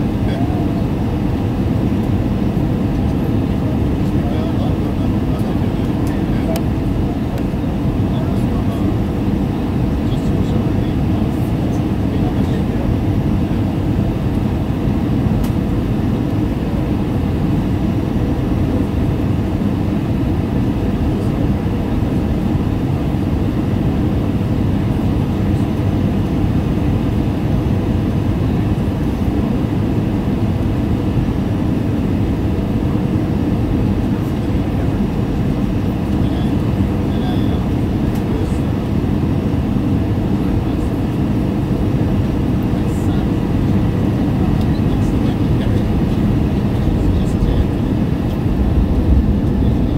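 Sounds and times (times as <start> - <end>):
airplane engines rumbling: 0.0 - 49.9
rushing air in cabin: 0.0 - 49.9.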